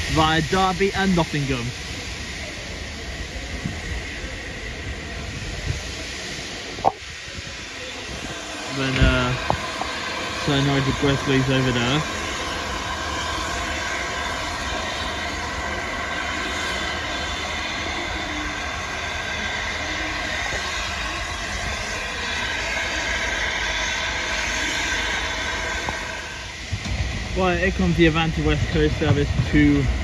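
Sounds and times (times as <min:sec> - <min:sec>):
steam hissing from locomotive: 0:00.0 - 0:30.0.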